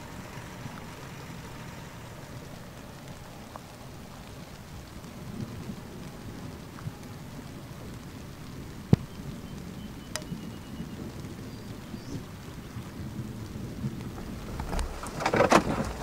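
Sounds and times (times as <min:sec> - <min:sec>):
distant thunder rumbling: 0:00.0 - 0:16.0.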